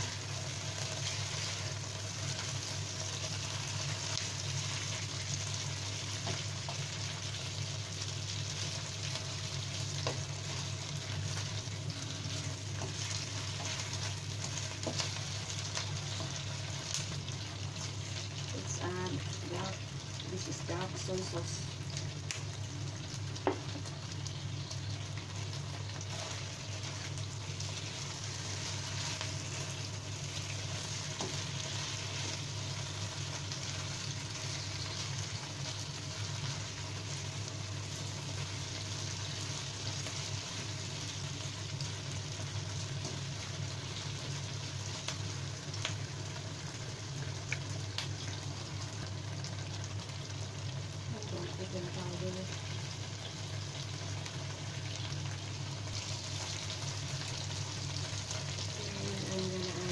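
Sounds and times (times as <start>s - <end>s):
chicken and onion sizzling in a wok: 0.0s - 59.9s.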